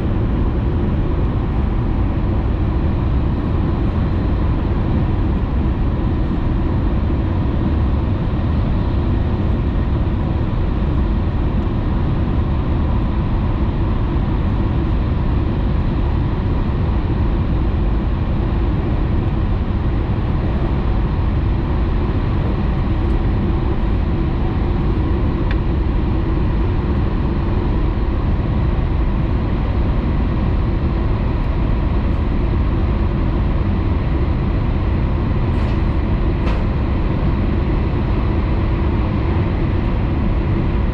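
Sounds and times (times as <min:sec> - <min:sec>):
train rumble inside cabin: 0:00.0 - 0:40.9.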